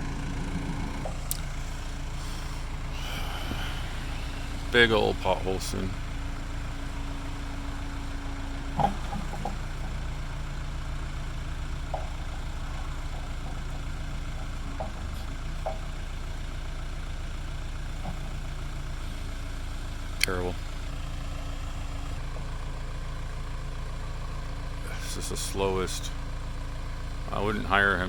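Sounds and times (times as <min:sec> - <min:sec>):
backhoe engine running: 0:00.0 - 0:28.0.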